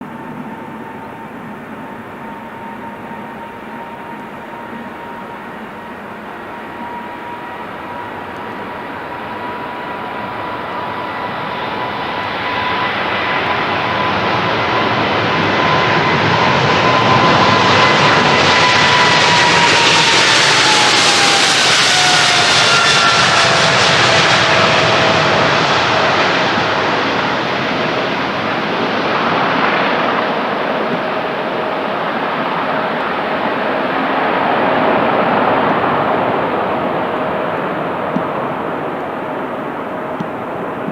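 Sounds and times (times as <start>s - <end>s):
high jet engine whine: 0.0s - 40.9s
jet engines roaring: 0.0s - 40.9s.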